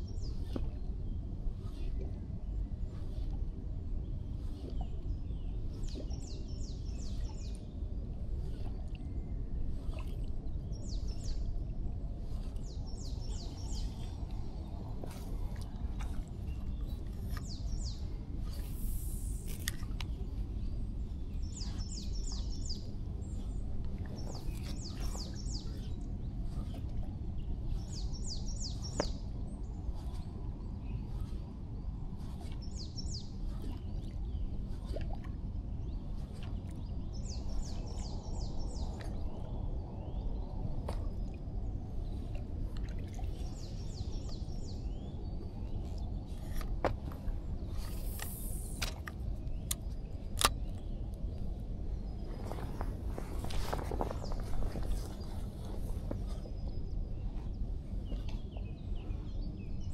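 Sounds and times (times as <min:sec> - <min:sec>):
steady low rumble: 0:00.0 - 0:59.9
songbird singing: 0:04.0 - 0:35.0, 0:35.6 - 0:42.4, 0:43.3 - 0:59.9.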